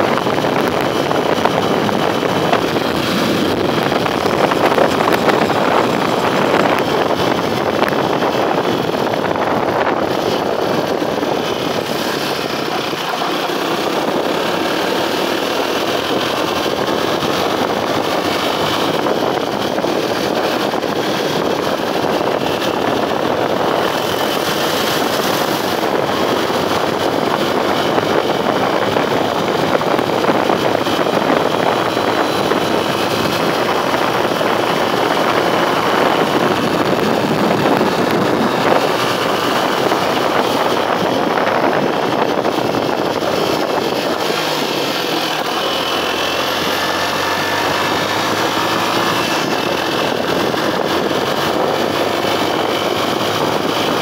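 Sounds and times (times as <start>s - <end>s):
motorcycle engine and tyre noise: 0.0s - 54.0s
wind noise on microphone: 0.0s - 54.0s.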